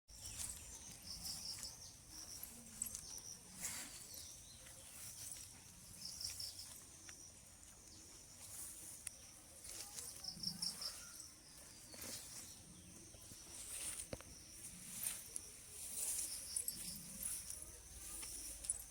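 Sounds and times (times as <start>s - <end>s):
songbirds chirping: 0.1s - 18.9s.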